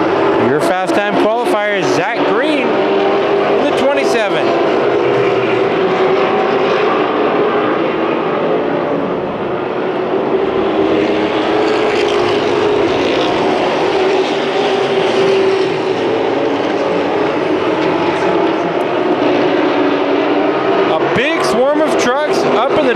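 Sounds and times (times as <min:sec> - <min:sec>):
racing truck engines droning: 0:00.0 - 0:22.9.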